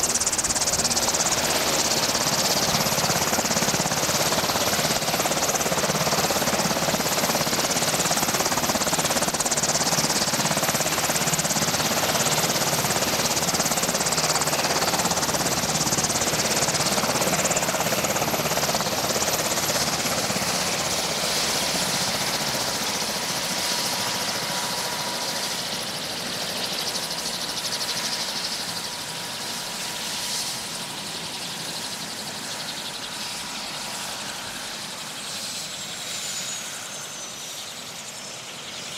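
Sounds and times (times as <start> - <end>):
helicopter rotor rush: 0.0 - 38.9
high turbine whine: 0.0 - 38.9.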